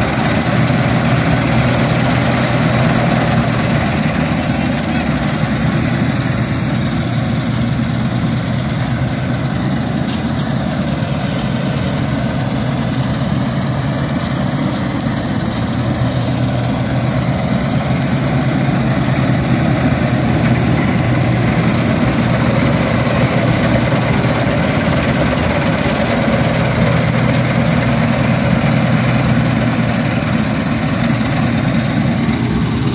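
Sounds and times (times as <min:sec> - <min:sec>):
diesel engine humming: 0:00.0 - 0:32.9.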